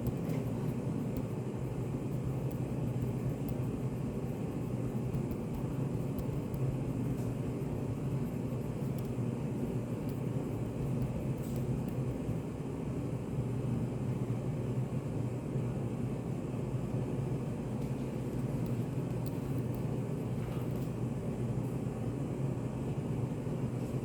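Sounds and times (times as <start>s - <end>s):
low rumbling room noise: 0.0s - 24.0s.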